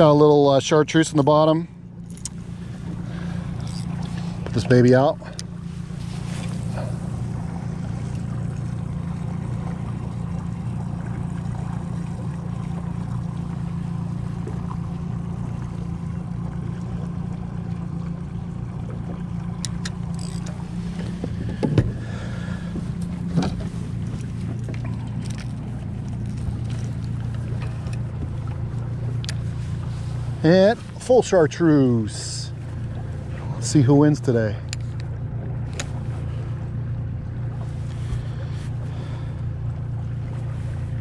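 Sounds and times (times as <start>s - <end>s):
boat motor humming: 0.0s - 41.0s.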